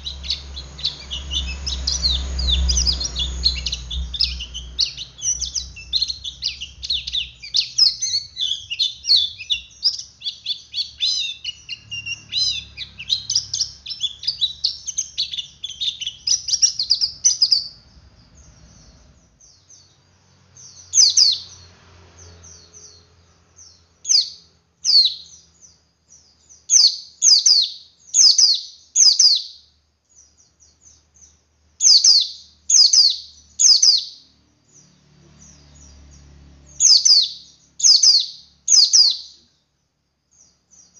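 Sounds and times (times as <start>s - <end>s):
bird downward-sweeping calls: 0.0s - 19.9s, 20.6s - 25.4s, 26.5s - 29.6s, 31.8s - 39.5s
bird twittering: 0.0s - 39.6s.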